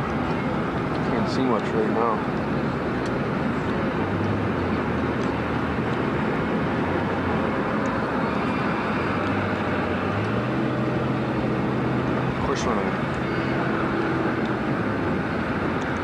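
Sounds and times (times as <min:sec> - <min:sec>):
road rumble: 0:00.0 - 0:16.0
truck engine hum: 0:00.0 - 0:16.0.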